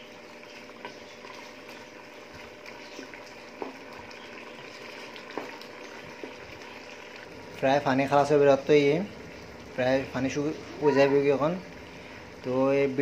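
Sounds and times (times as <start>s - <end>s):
curry bubbling in a pot: 0.0s - 13.0s.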